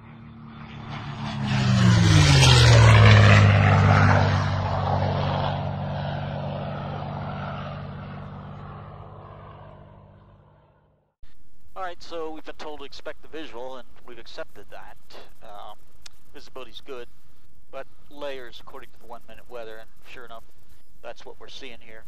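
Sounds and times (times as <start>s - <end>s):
propeller airplane flying past: 0.0s - 22.0s.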